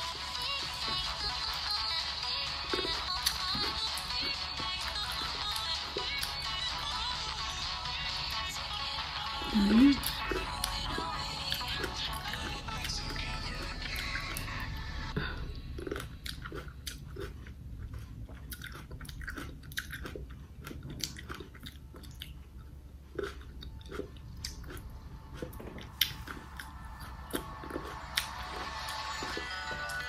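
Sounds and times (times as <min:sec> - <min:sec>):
chewing grapes: 0:00.0 - 0:07.0, 0:09.2 - 0:30.0.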